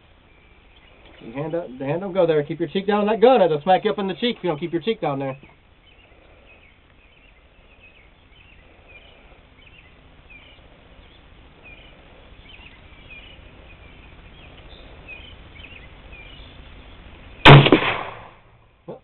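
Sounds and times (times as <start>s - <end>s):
birds chirping: 0.0s - 19.0s
faint low rumble: 0.0s - 19.0s.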